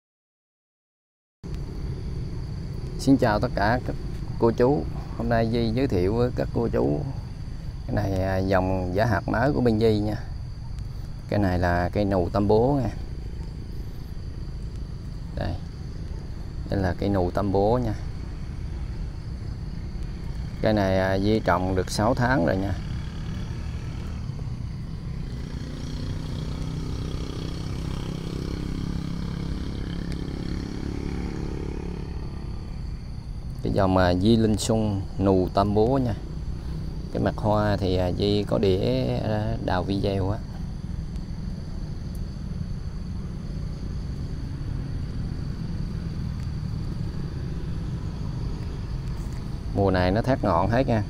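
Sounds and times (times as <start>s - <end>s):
vehicle engine passing by: 1.5s - 10.3s, 10.9s - 51.0s
insects trilling: 1.5s - 51.0s.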